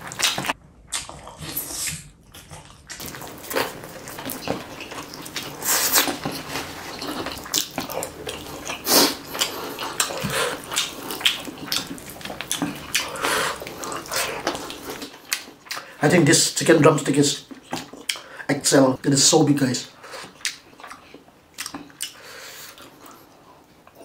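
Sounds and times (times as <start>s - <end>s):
wet chewing and lip-smacking: 0.0s - 16.0s, 17.4s - 18.3s, 20.2s - 24.0s.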